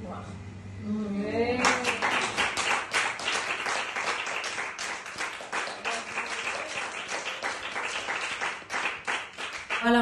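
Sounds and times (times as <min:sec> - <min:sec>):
people clapping: 0:01.6 - 0:10.0.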